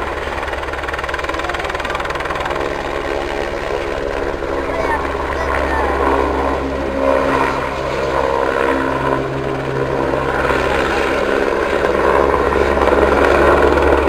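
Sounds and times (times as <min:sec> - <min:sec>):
helicopter flying: 0:00.0 - 0:14.0.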